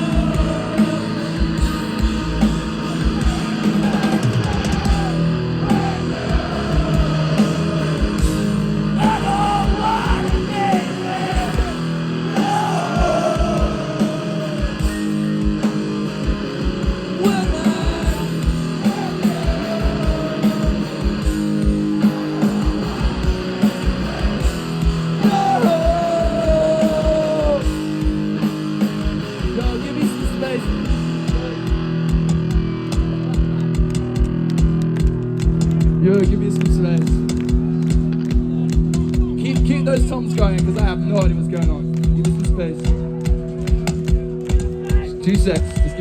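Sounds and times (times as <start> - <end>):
distorted electric guitars: 0.0 - 46.0
driving drum beat: 0.0 - 46.0.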